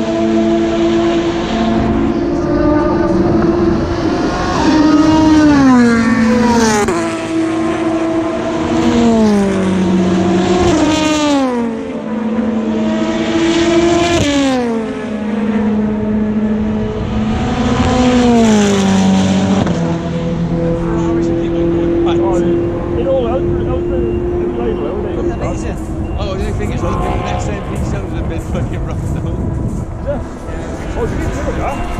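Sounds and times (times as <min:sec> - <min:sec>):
race cars passing at speed: 0:00.0 - 0:31.9.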